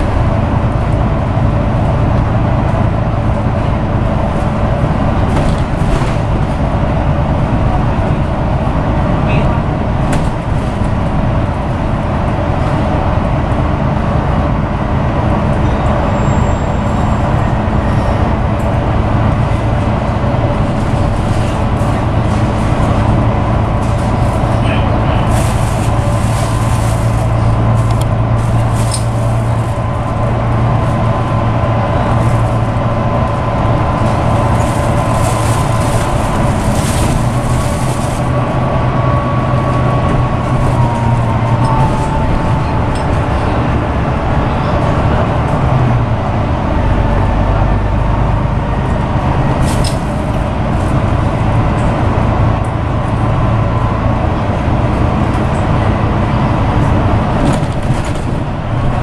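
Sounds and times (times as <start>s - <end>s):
bus engine hum: 0.0s - 59.0s
tyre and road noise: 0.0s - 59.0s.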